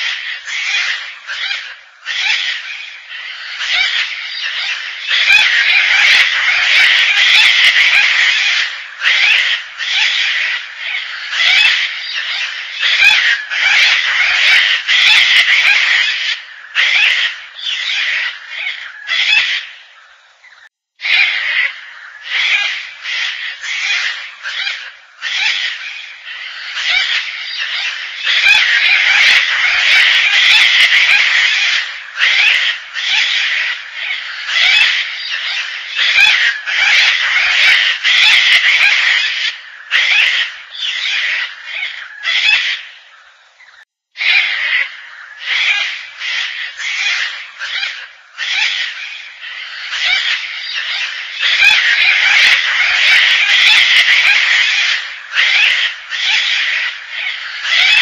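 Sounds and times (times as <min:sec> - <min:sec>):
cockatoo calling: 0:00.0 - 0:58.0.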